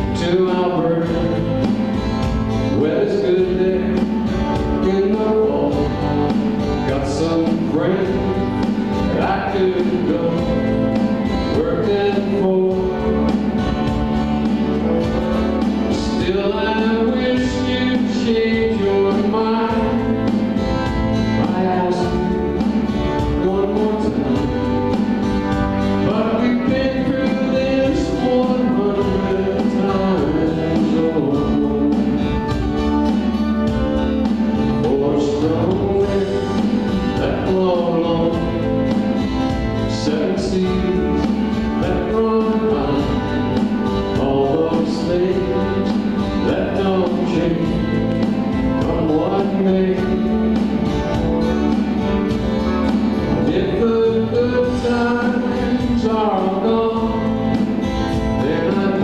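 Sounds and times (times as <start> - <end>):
person singing: 0.0 - 33.0, 33.7 - 59.0
acoustic guitar: 0.0 - 59.0
keyboard: 0.0 - 59.0.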